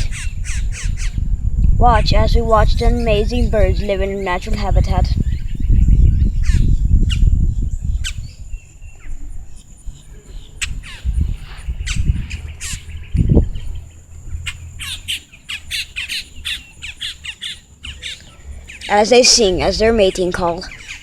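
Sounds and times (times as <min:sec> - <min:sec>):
birds squawking chirps: 0:00.0 - 0:01.3, 0:02.8 - 0:21.0
low rumble on microphone: 0:00.0 - 0:16.9.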